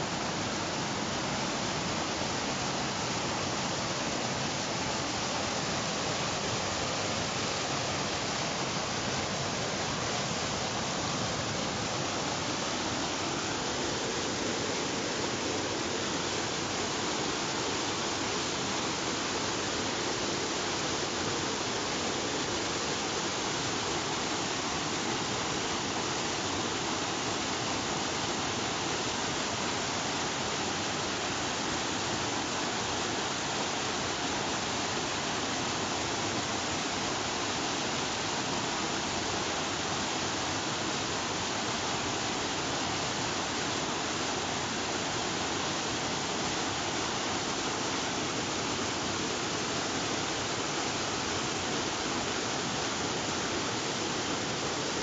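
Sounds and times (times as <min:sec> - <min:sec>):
water rushing over boulders: 0:00.0 - 0:55.0.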